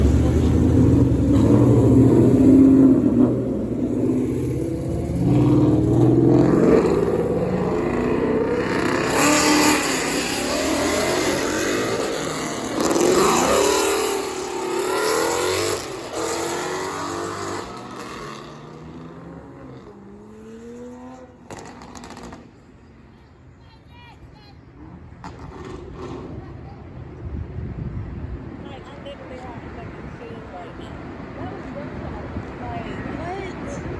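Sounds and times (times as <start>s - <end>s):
cars revving and driving past: 0.0s - 23.5s, 24.2s - 33.9s.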